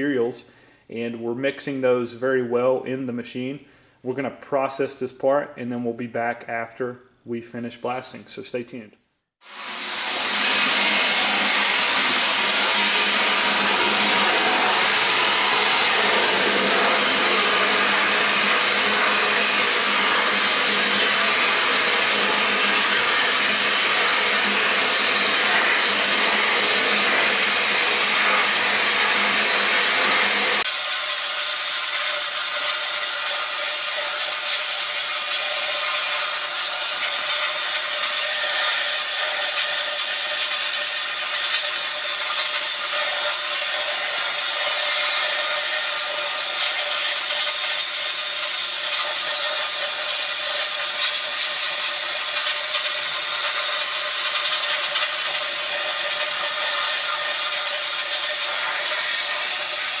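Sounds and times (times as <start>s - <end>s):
blasting cabinet hissing: 9.4s - 60.0s.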